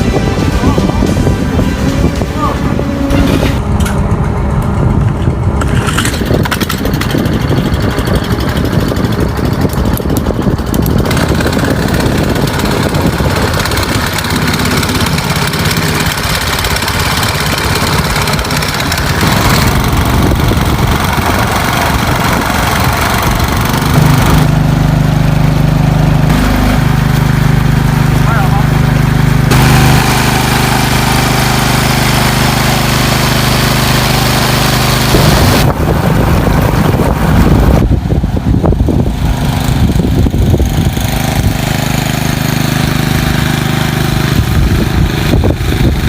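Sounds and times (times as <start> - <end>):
small boat engine running: 0.0 - 46.0.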